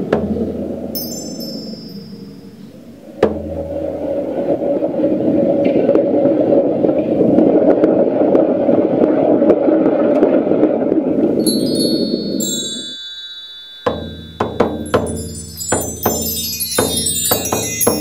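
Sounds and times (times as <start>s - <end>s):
dense grainy noise: 0.0s - 18.0s.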